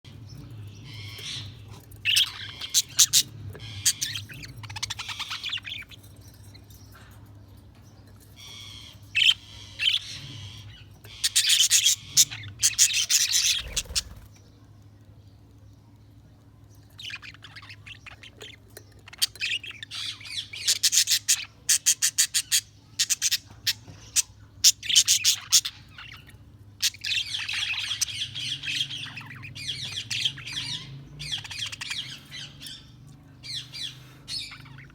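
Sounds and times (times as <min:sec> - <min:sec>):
budgerigars chirping and squawking: 0:00.1 - 0:14.4, 0:16.9 - 0:34.9.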